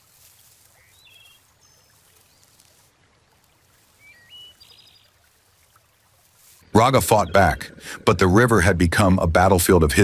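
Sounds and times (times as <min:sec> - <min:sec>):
trickling water: 0:00.0 - 0:10.0.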